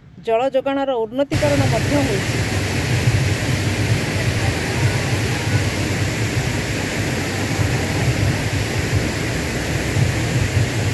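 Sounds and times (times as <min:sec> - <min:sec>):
low rumble: 0:01.3 - 0:10.9
stream water rushing over rocks: 0:01.3 - 0:10.9.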